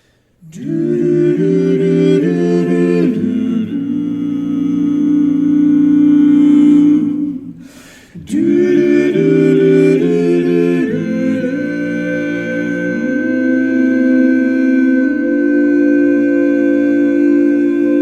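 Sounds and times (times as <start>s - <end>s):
men humming barbershop chords: 0.4s - 18.0s.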